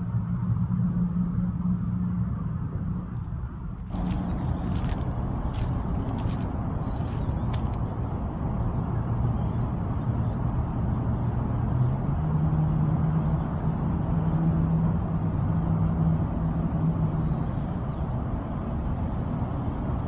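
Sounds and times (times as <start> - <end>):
vehicle engine running: 3.8 - 20.0.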